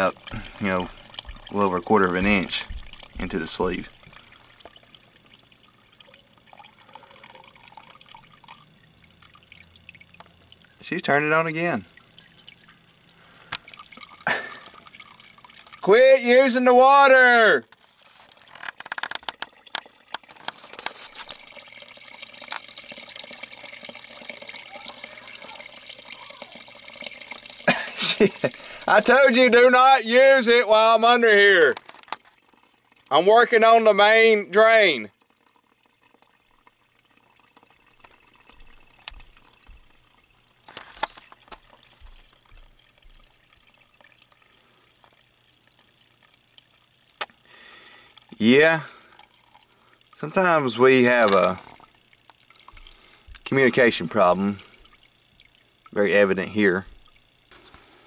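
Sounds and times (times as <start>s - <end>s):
wastewater dripping and trickling: 0.0s - 58.0s.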